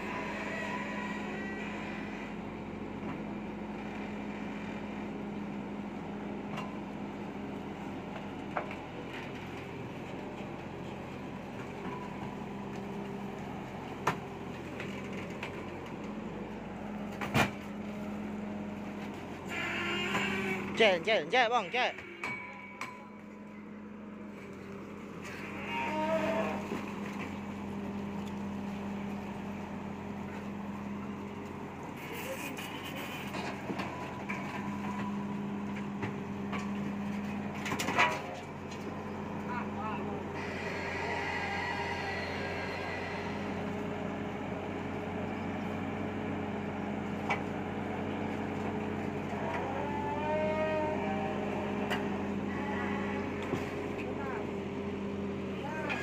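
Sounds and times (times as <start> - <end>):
excavator engine humming: 0.0 - 56.0.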